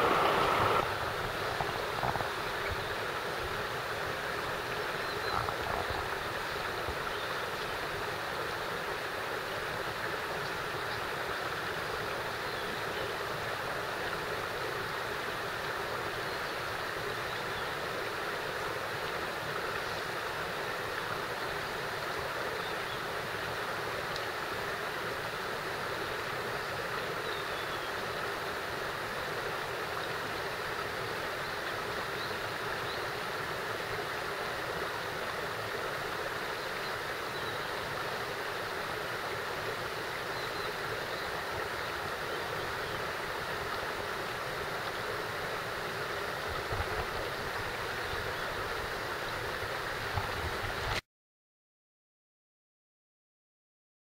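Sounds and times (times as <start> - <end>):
stream rushing over rocks: 0.0 - 51.0.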